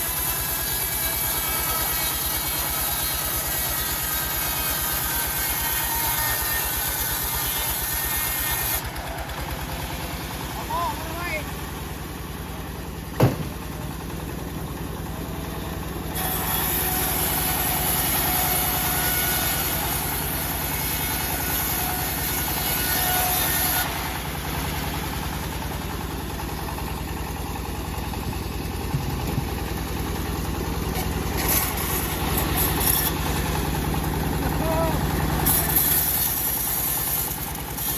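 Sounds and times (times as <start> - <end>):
bandsaw blade cutting log: 0.0 - 11.5, 13.1 - 14.2, 15.0 - 27.2, 28.9 - 37.9
sawmill engine running: 0.0 - 37.9.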